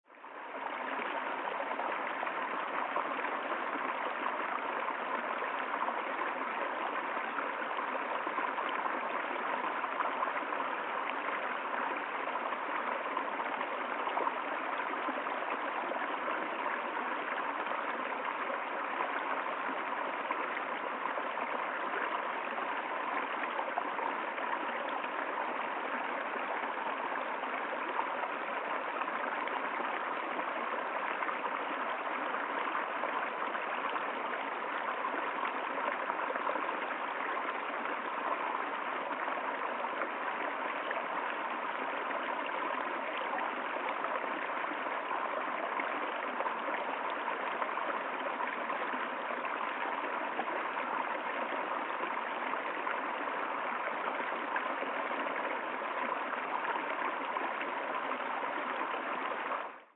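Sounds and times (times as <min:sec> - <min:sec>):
stream flowing over stones: 0:00.0 - 0:59.9.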